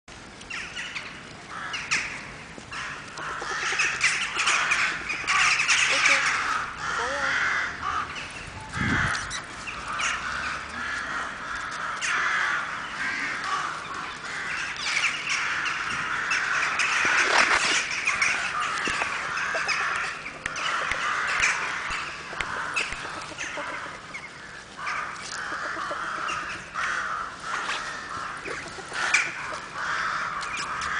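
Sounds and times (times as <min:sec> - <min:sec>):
chorus of bird calls: 0:00.4 - 0:30.9.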